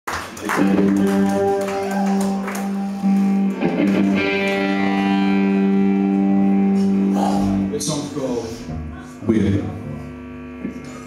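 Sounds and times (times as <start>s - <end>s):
electric guitar sustained notes: 0.2s - 11.0s.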